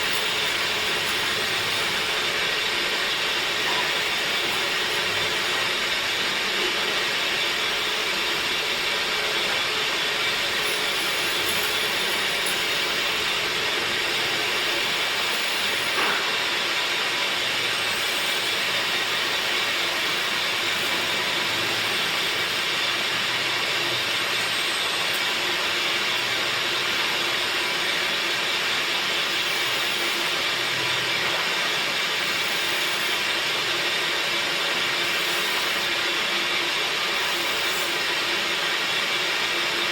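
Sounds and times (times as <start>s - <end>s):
wood lathe cutting wood: 0.0s - 39.9s.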